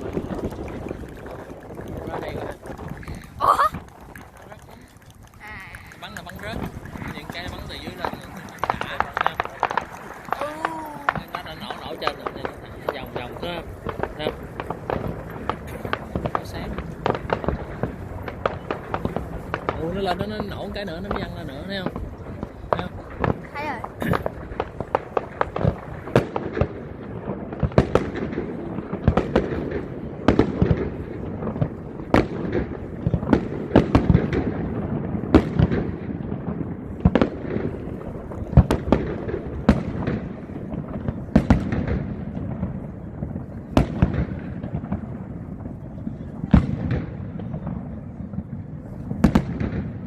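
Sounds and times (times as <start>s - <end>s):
fireworks shells bursting: 0.0s - 45.0s
fireworks crackle: 0.0s - 50.0s
fireworks launches rumbling: 0.0s - 50.0s.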